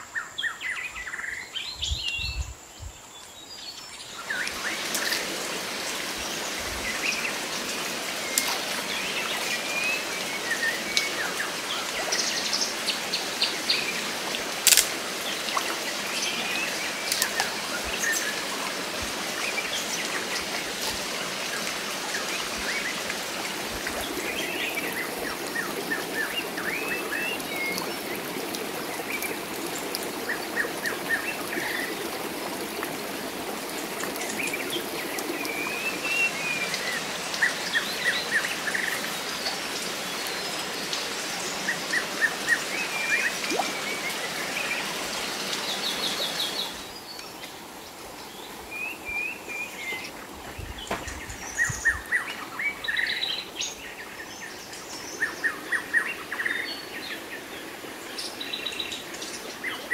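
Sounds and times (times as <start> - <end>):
trickling water: 3.1 - 59.9.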